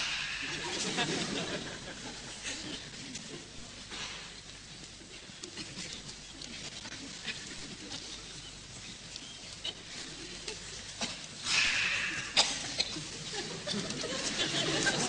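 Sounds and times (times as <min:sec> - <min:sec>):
faint rustles and clicks: 0:00.9 - 0:15.0.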